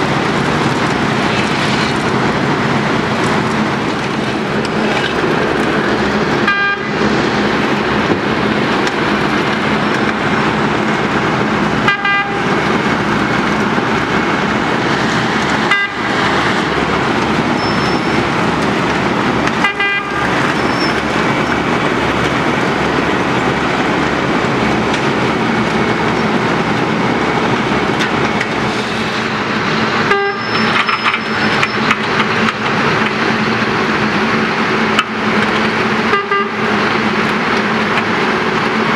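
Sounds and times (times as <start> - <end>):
diesel engine running under load: 0.0 - 38.9
milling drum grinding asphalt: 0.0 - 38.9.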